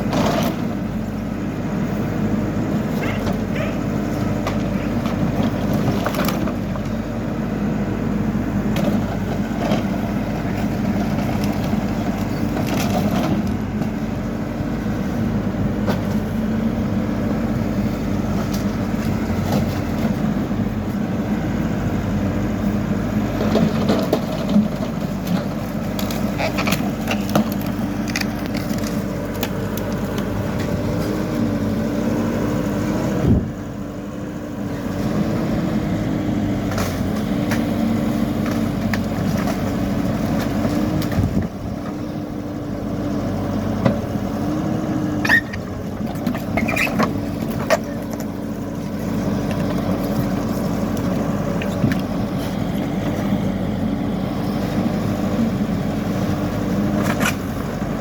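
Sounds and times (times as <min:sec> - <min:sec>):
backhoe loader diesel engine: 0:00.0 - 0:58.0.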